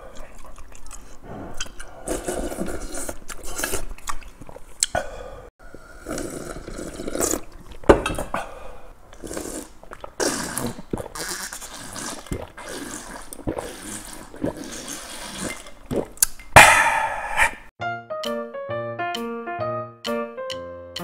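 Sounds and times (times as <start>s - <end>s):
person slurping and gulping: 0.0s - 17.7s.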